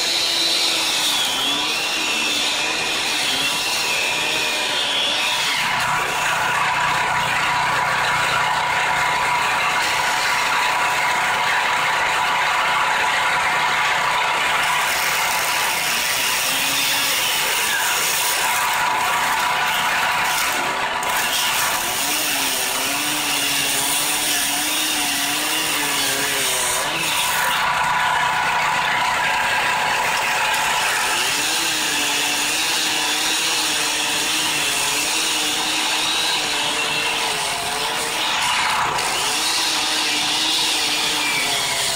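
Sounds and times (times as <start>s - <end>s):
chainsaw cutting into log: 0.0s - 41.9s.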